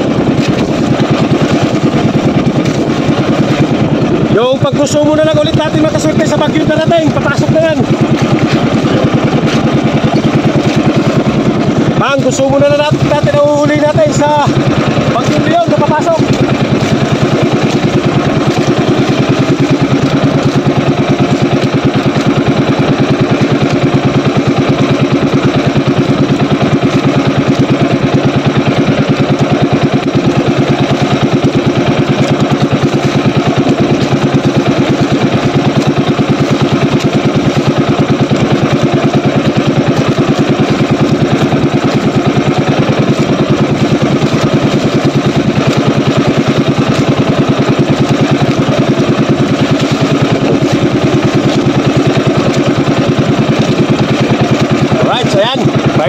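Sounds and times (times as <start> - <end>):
small boat engine droning: 0.0 - 56.0.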